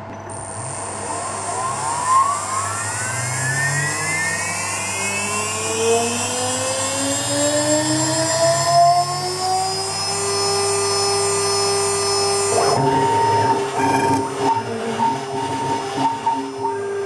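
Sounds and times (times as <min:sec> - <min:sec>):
router spindle high whine: 0:00.0 - 0:17.0
stepper motor tones rising: 0:00.0 - 0:17.0.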